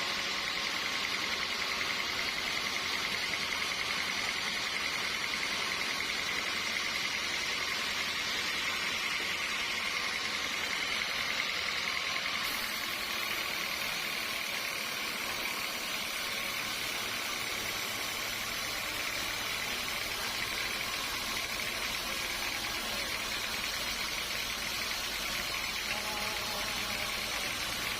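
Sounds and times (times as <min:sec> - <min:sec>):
sawmill machinery humming: 0:00.0 - 0:27.9.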